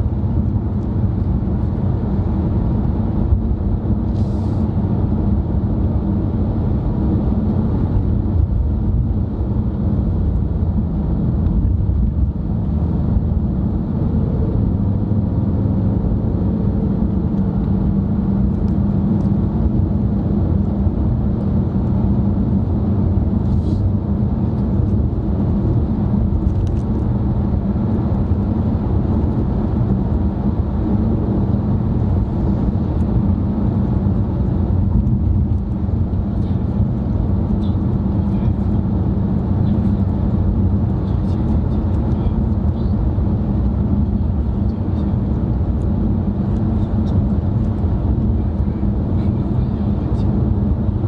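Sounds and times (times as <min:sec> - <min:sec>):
car interior road and engine noise: 0:00.0 - 0:51.0.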